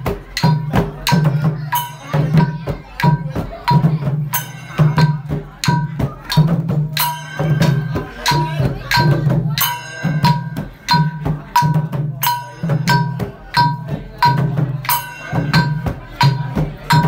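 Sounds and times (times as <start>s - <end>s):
long drums beaten: 0.0s - 17.0s
ringing metal cymbal clash: 0.4s - 3.1s, 3.7s - 17.0s.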